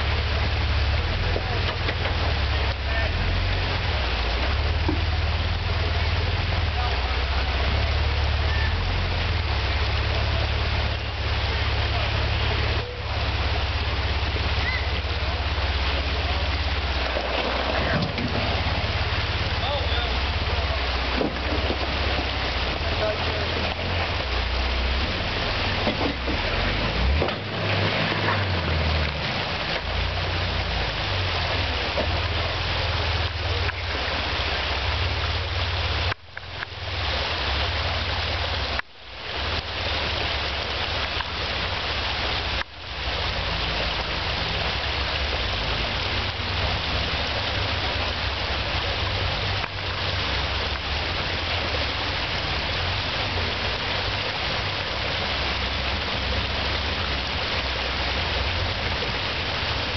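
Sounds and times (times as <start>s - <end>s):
off-road engines crawling over rocks: 0.0s - 59.9s.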